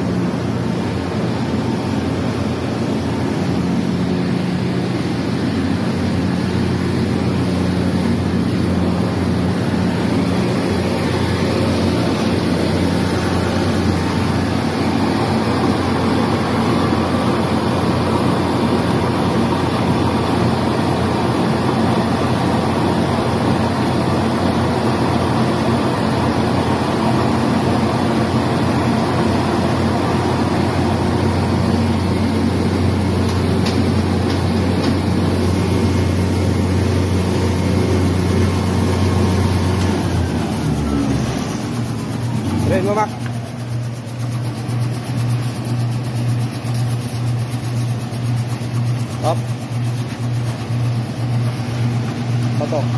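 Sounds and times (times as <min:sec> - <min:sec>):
rice mill machine droning: 0:00.0 - 0:52.9.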